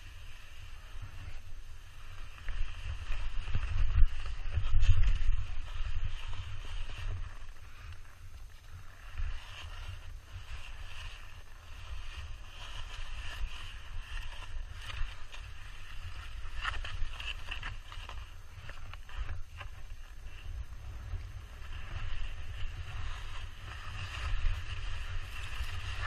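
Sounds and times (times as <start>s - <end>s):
skis sliding on snow: 0.0s - 26.0s
wind rumbling on microphone: 0.0s - 26.0s.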